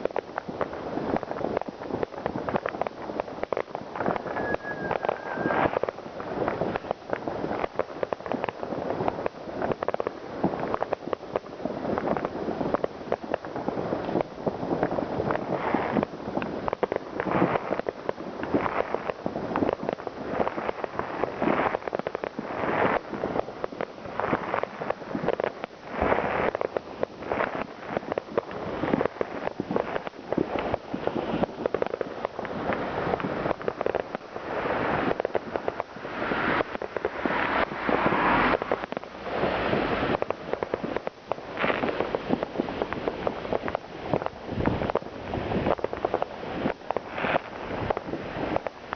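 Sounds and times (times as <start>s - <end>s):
fireworks and firecrackers banging: 0.0s - 48.9s.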